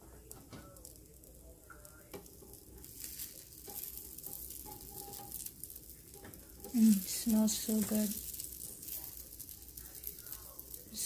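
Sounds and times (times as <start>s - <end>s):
batter sizzling in oil: 0.0s - 11.0s.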